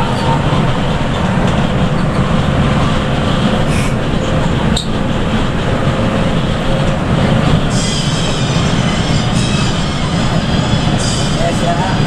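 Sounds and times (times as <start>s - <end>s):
bus engine drone: 0.0s - 12.0s
tyres rumbling on road: 0.0s - 12.0s.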